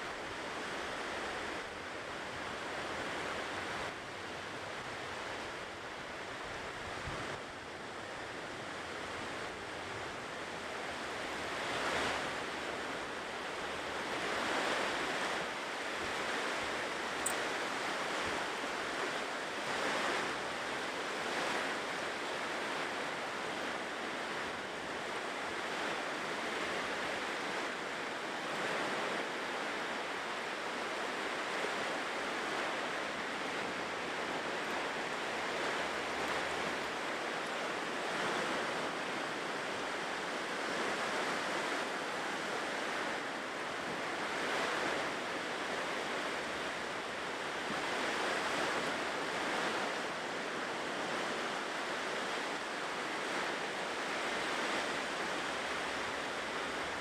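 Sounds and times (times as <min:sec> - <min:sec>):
ocean waves washing onto shore: 0:00.0 - 0:57.0
wind: 0:00.0 - 0:57.0.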